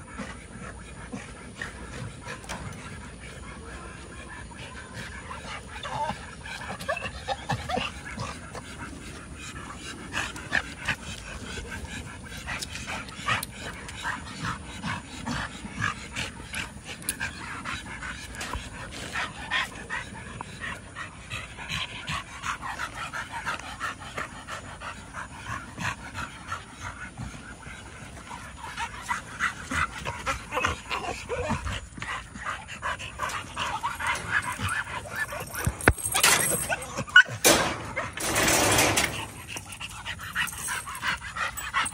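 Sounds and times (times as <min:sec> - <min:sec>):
dogs panting: 0:00.0 - 0:41.9
dogs whining and yipping: 0:00.0 - 0:41.9.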